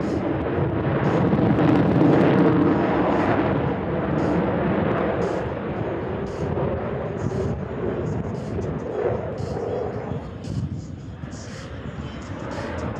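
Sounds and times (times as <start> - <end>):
jet passing overhead: 0.0 - 12.9.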